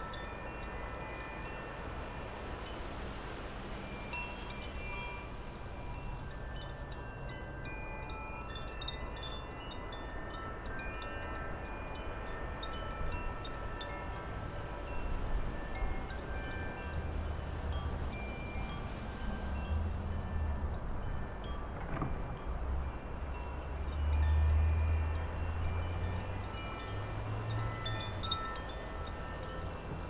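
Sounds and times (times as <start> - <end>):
wind chimes ringing: 0.0 - 30.0.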